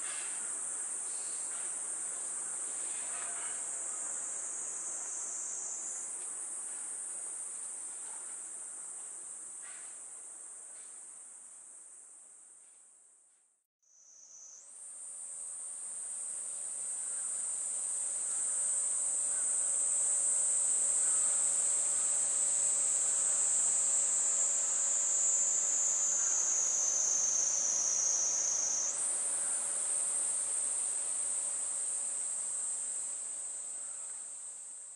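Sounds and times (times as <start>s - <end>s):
cicadas buzzing: 0.0s - 12.1s, 13.8s - 34.9s.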